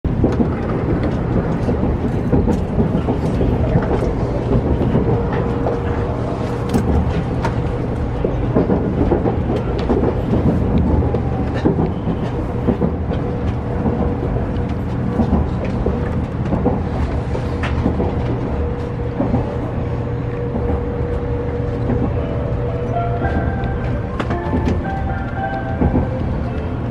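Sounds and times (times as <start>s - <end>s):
train rumbling on track: 0.0s - 26.9s.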